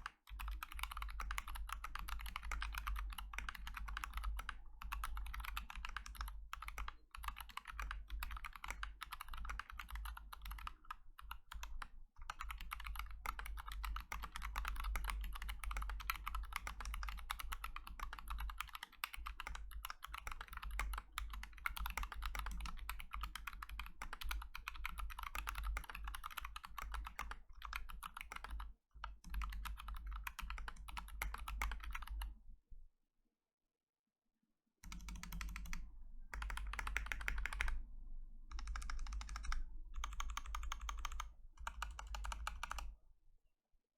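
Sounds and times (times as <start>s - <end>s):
mechanical keyboard typing: 0.0s - 32.3s, 34.8s - 37.8s, 38.5s - 42.9s.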